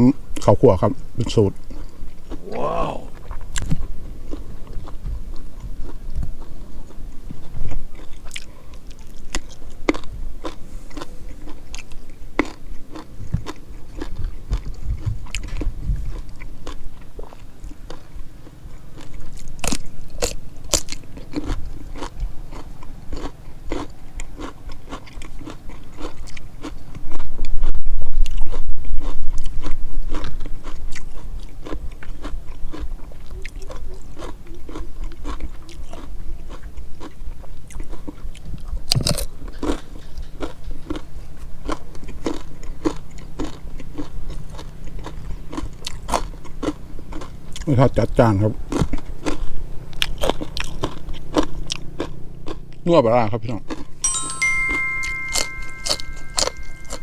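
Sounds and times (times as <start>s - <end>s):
person chewing crunchy food: 0.4s - 52.8s, 53.5s - 57.0s.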